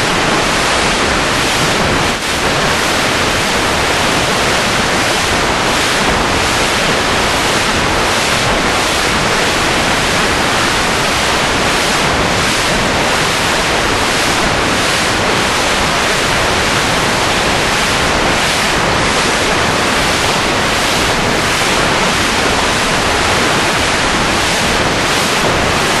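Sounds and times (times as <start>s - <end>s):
steady rushing static noise: 0.0s - 26.0s.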